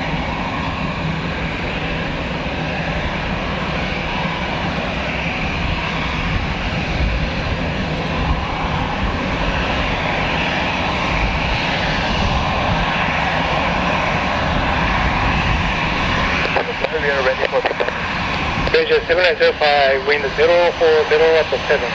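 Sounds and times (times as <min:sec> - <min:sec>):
jet engines running at low power: 0:00.0 - 0:21.9.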